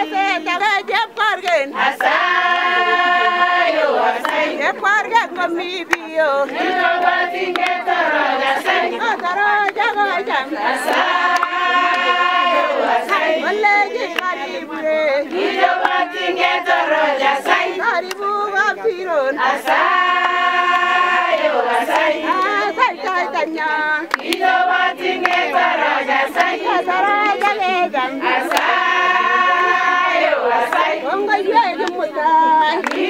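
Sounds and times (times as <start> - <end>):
group singing a cappella: 0.0 - 33.0
hands clapping: 1.2 - 14.6, 15.2 - 16.8, 17.4 - 18.7, 19.6 - 19.9, 20.6 - 33.0.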